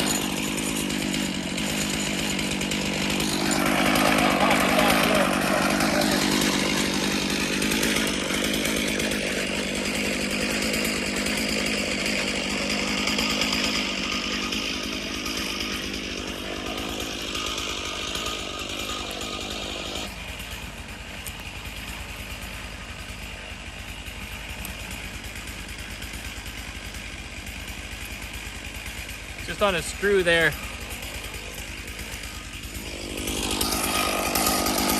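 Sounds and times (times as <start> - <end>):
chainsaw running: 0.0 - 34.9.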